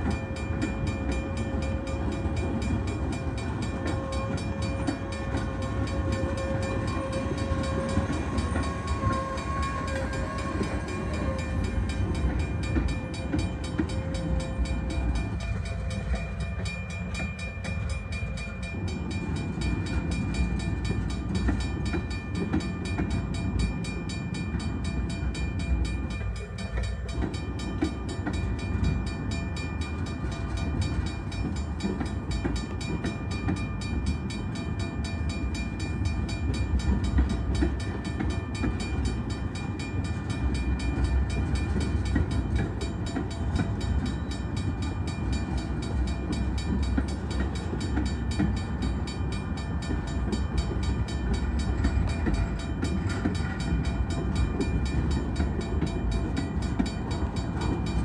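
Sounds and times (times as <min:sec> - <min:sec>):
freight cars rumbling on rails: 0:00.0 - 0:58.0.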